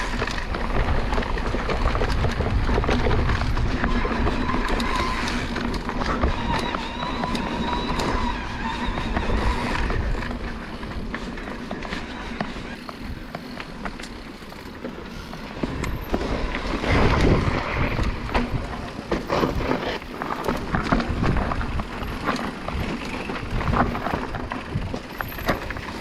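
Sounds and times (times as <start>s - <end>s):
stones and bike rattling: 0.0s - 26.0s
tyre and wind rush: 0.0s - 26.0s.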